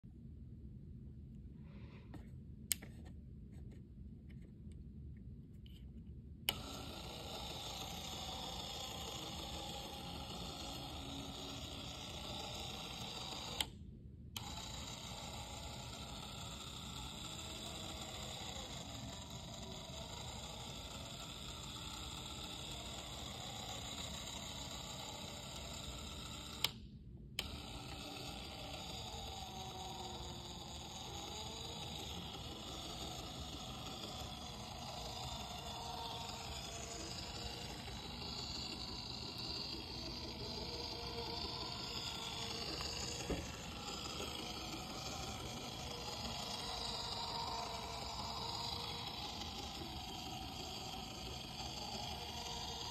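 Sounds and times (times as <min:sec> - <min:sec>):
gear motor running: 0:06.5 - 0:13.7, 0:14.4 - 0:26.8, 0:27.4 - 0:52.9.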